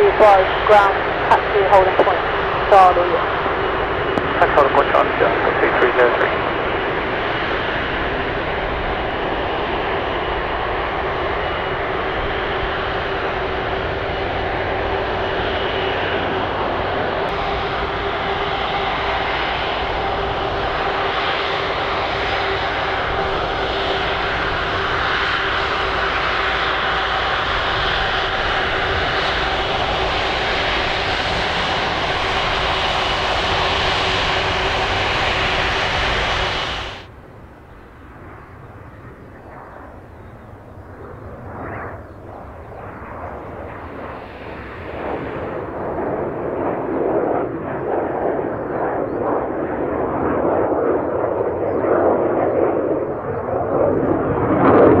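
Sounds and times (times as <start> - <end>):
distant jet on approach: 0.0 - 55.0
jet engines running at taxi power: 0.0 - 55.0.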